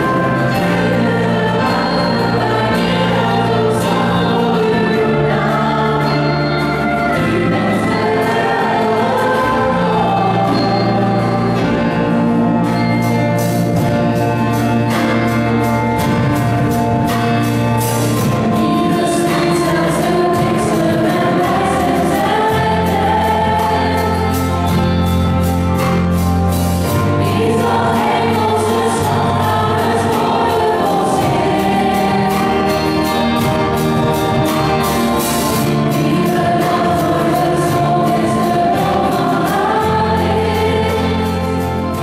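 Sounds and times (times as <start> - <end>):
group singing in harmony: 0.0 - 42.0
held bass notes: 0.0 - 42.0
steady percussive beat: 0.0 - 42.0.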